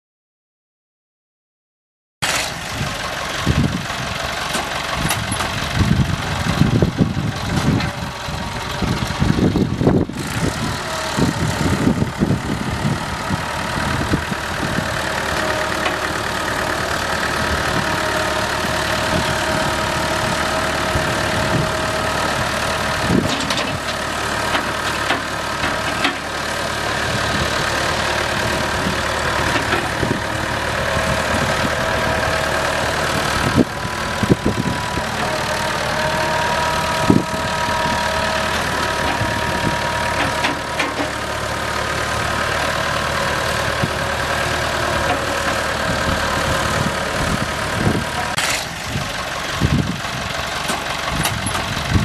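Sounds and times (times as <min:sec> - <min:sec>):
tractor engine idling: 0:02.3 - 0:52.0.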